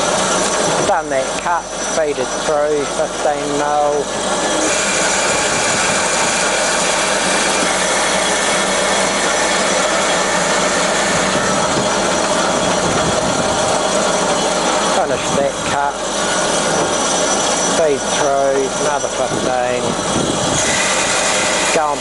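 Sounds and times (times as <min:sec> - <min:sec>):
bandsaw cutting wood: 0:00.0 - 0:22.0.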